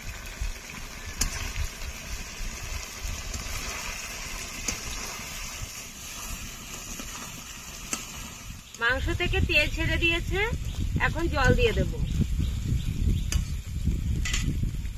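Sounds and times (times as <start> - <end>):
curry sizzling in a pan: 0.0 - 14.1.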